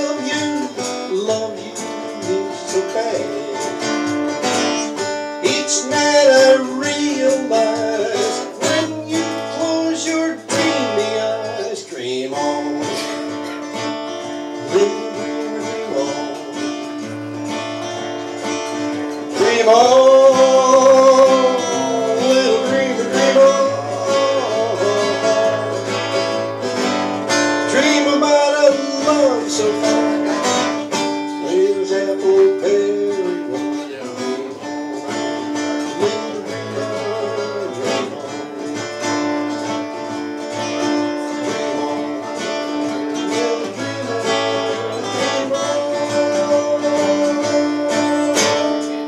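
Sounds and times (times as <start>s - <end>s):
two acoustic guitars playing: 0.0s - 49.0s.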